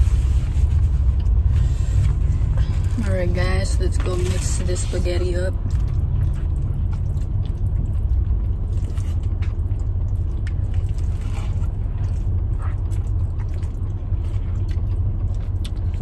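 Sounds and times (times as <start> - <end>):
car engine rumble inside cabin: 0.0 - 16.0.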